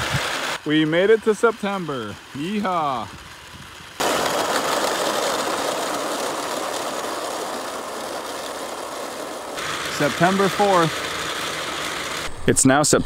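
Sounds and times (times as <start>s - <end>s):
rover motors grinding: 0.0s - 13.0s.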